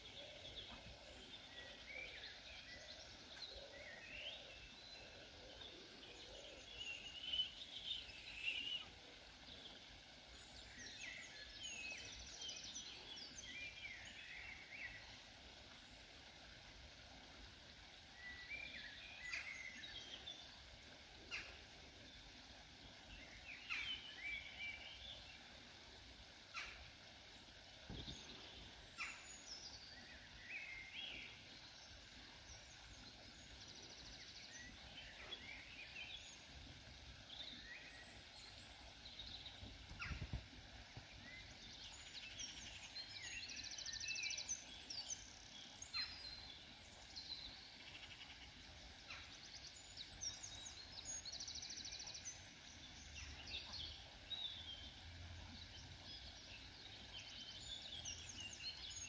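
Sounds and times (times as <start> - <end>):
faint outdoor background: 0.0 - 59.0.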